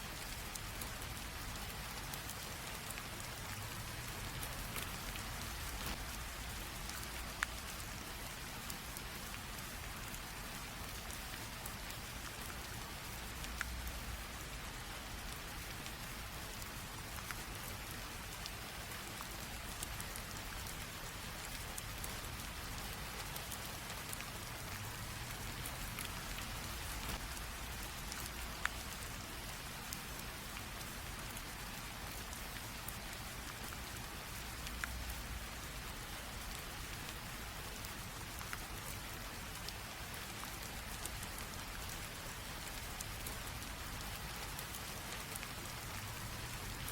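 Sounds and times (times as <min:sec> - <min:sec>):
light rain drizzle: 0:00.0 - 0:46.9
raindrop ticks: 0:00.1 - 0:46.9.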